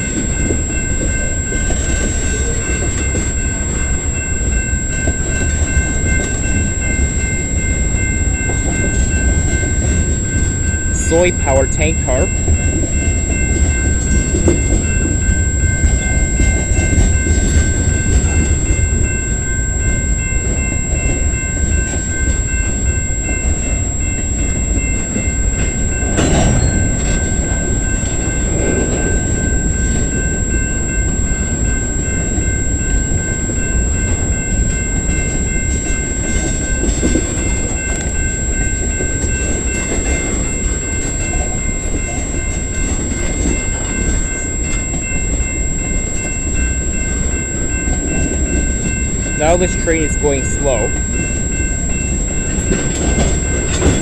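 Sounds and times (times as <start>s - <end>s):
high-pitched tones: 0.0s - 24.9s, 28.7s - 54.0s
steel wheels rumbling on rails: 0.0s - 54.0s.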